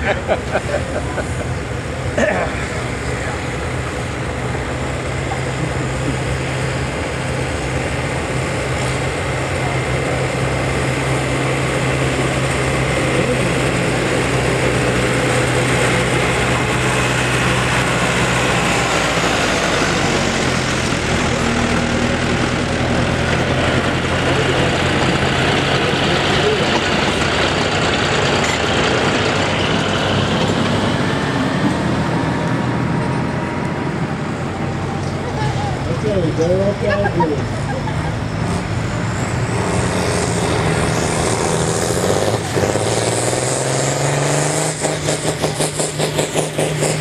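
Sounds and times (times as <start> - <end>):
tractor engines running: 0.0 - 47.0.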